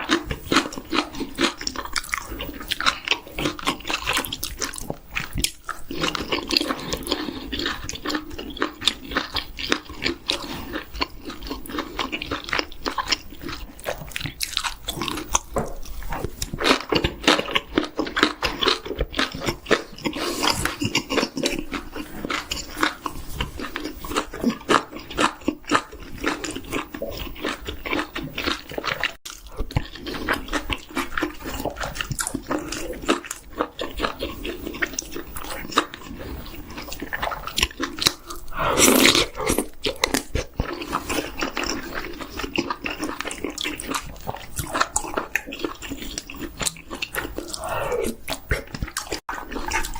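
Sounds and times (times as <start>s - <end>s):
person chewing and crunching: 0.0s - 49.9s.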